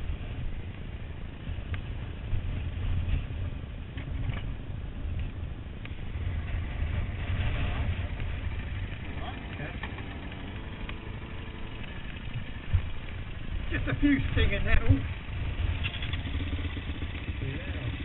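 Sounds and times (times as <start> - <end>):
motorcycle engines idling: 0.0 - 18.0.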